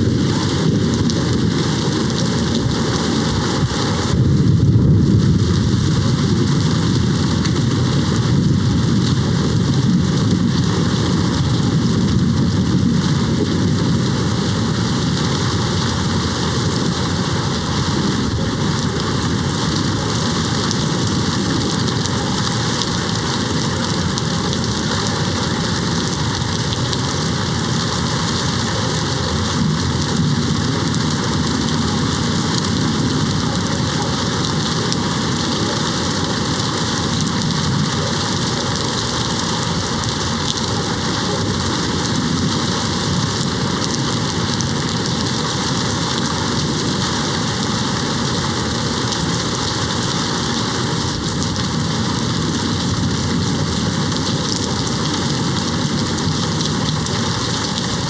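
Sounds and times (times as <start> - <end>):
rain hitting window: 0.0 - 58.0.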